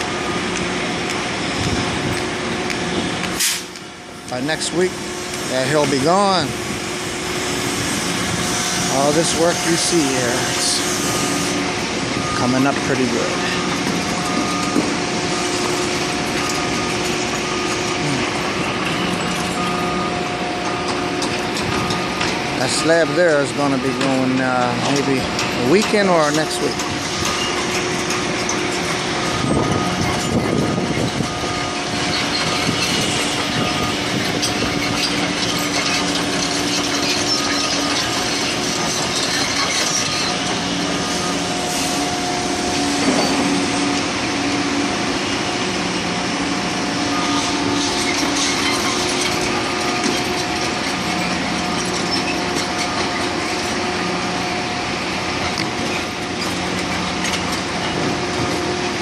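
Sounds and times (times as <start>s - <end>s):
heavy machinery engines running: 0.0s - 59.0s.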